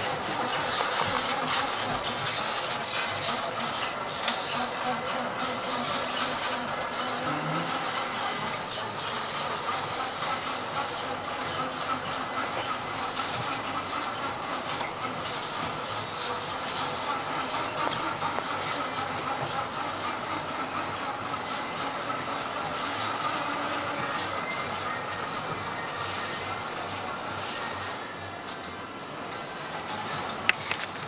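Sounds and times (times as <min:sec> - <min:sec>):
model truck motors running: 0:00.0 - 0:31.0.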